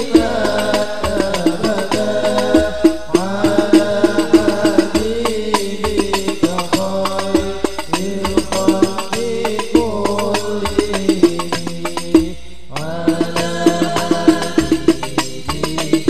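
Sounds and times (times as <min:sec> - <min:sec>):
frame drums: 0:00.0 - 0:16.0
group singing over sound system: 0:00.0 - 0:16.0.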